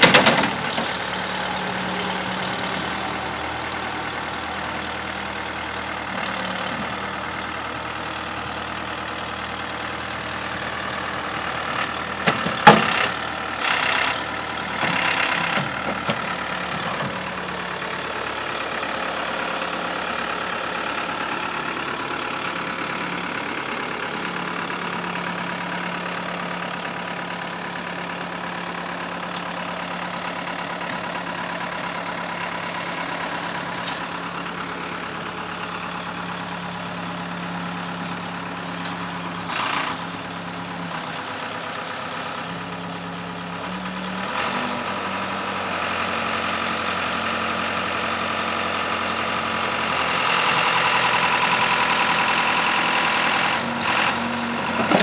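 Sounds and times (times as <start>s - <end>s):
backhoe engine running: 0.0s - 55.0s.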